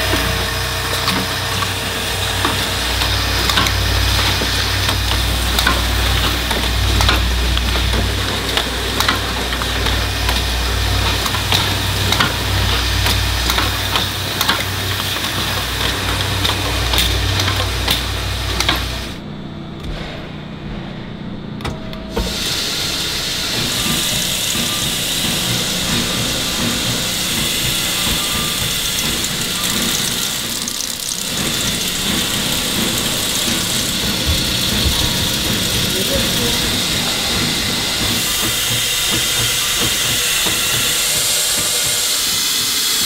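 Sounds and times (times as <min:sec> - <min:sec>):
machine hum and hiss: 0:00.0 - 0:43.0.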